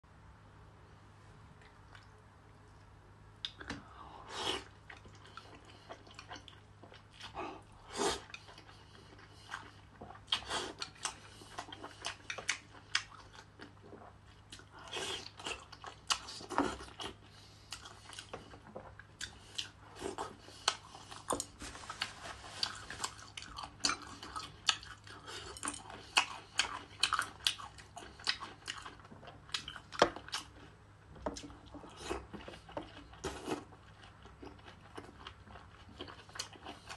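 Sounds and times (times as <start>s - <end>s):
faint low hum: 0.0s - 36.9s
chewing and mouth smacks: 1.6s - 3.9s, 4.6s - 21.6s, 22.6s - 36.9s.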